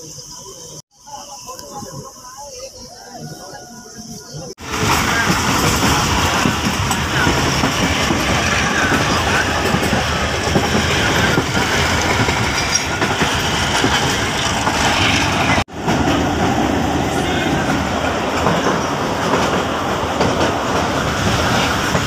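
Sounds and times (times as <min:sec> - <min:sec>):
train rumble and rattle: 0:00.1 - 0:22.0.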